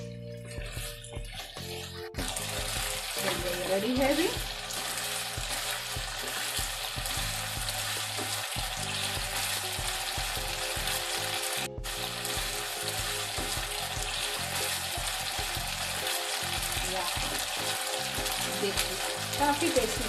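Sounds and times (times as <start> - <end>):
chicken sizzling in gravy: 1.6 - 20.0.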